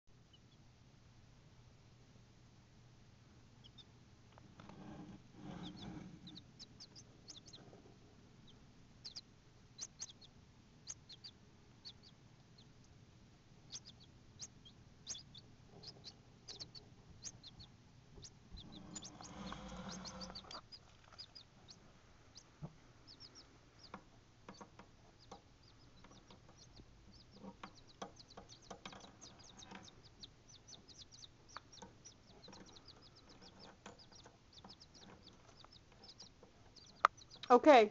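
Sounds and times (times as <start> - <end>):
chicks peeping: 0.2 - 0.7, 3.5 - 37.8.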